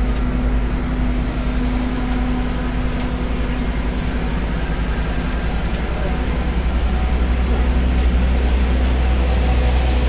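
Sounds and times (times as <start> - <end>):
bus engine rumble: 0.0 - 10.0
constant low hum: 0.0 - 10.0.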